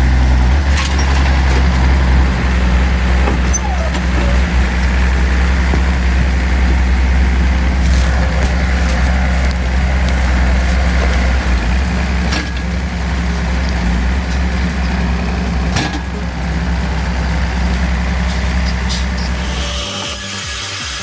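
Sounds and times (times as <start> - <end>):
sharp clicks: 0.0 - 19.9
heavy machine engine humming: 0.0 - 20.2.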